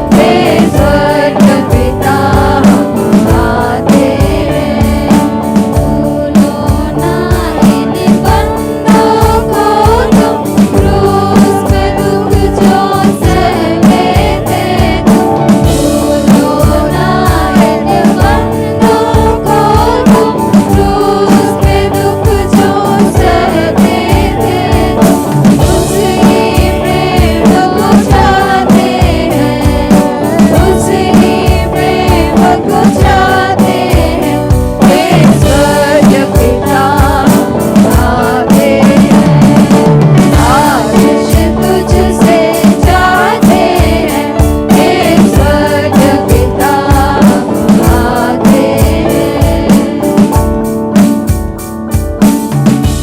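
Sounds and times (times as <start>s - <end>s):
voices singing: 0.0s - 50.8s
band playing: 0.0s - 53.0s
steady drum beat: 0.0s - 53.0s.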